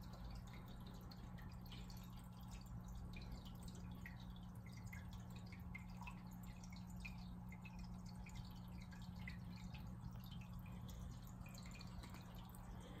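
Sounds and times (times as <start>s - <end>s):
aquarium filter water dripping: 0.0s - 13.0s
steady low hum: 0.0s - 13.0s.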